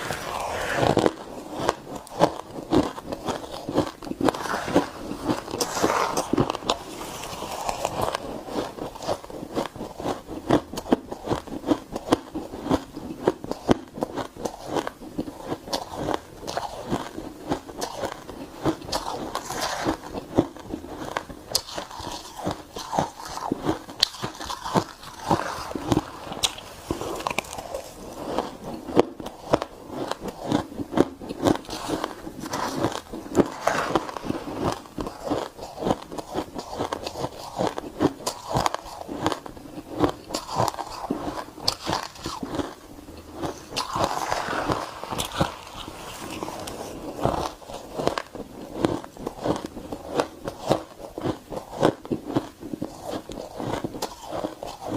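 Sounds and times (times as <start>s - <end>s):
chewing crunchy ice: 1.0s - 54.9s.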